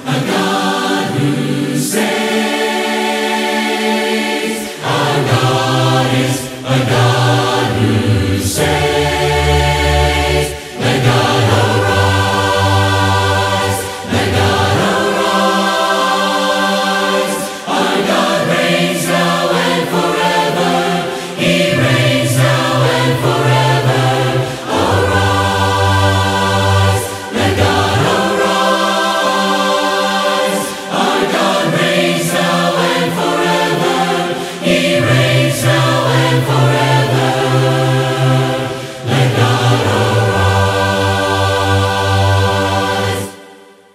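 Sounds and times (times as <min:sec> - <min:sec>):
voices singing a hymn unaccompanied: 0:00.0 - 0:43.9.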